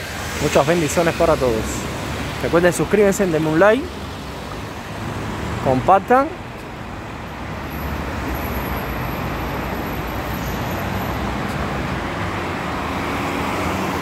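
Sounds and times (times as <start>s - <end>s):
cars driving past: 0.0s - 14.0s.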